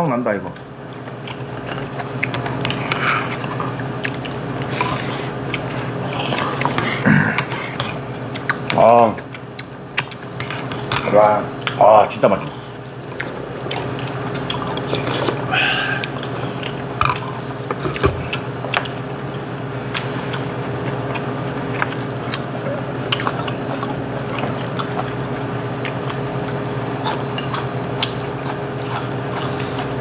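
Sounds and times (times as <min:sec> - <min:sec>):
chewing: 0:00.8 - 0:11.8, 0:12.5 - 0:30.0.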